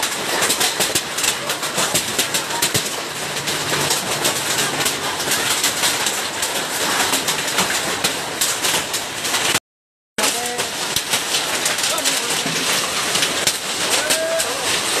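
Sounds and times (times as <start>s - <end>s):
heavy hail clattering: 0.0s - 9.6s, 10.2s - 15.0s.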